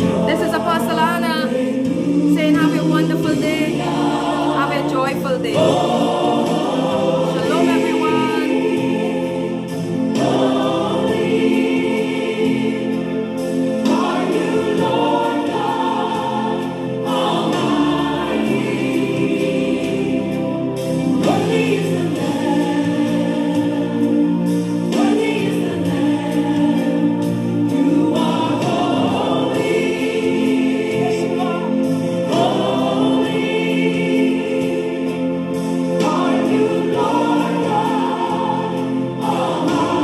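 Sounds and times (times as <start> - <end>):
choir singing gospel song: 0.0 - 40.0.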